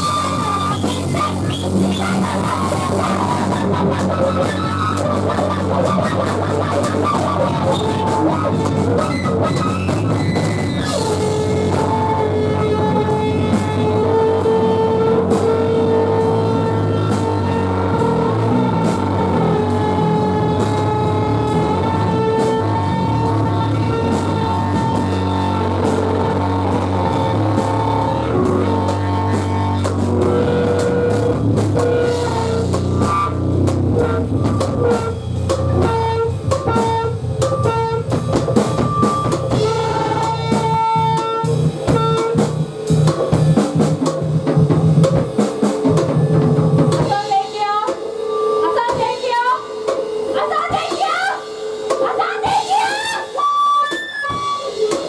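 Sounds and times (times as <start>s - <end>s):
electric guitar and bass droning: 0.0s - 47.2s
drums hitting: 0.0s - 55.0s.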